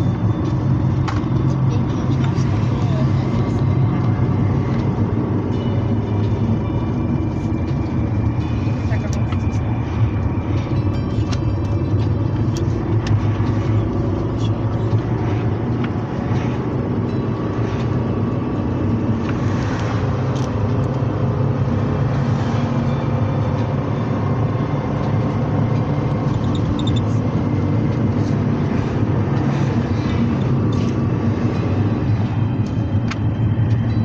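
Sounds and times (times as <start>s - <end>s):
engine and road rumble: 0.0s - 34.0s.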